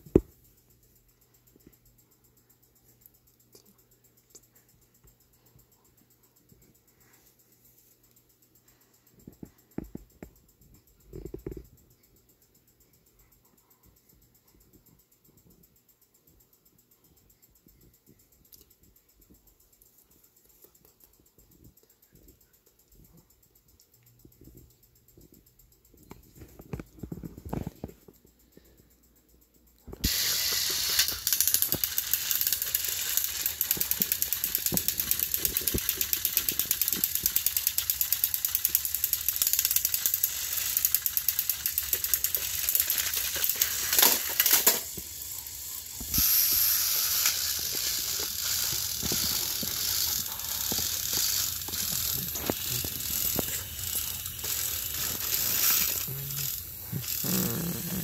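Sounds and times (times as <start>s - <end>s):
toy train motor whirring and ticking: 0.0s - 58.0s.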